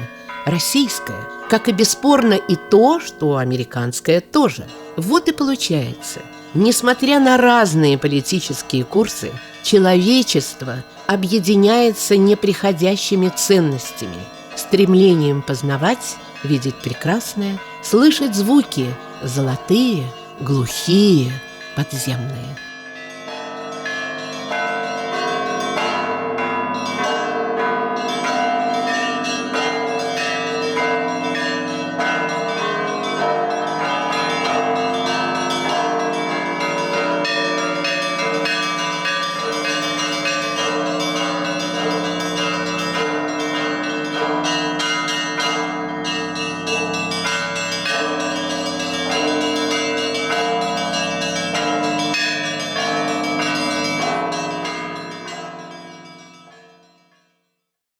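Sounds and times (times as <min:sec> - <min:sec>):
deeper bells ringing: 0:00.0 - 0:56.6.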